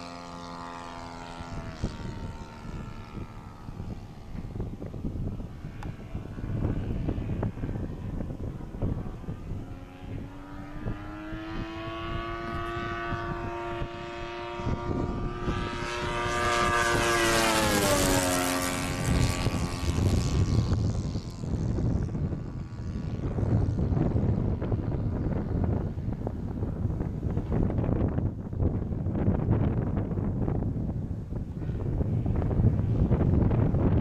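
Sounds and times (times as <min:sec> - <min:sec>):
model airplane engine flyby: 0:00.0 - 0:34.0
wind buffeting microphone: 0:00.0 - 0:34.0.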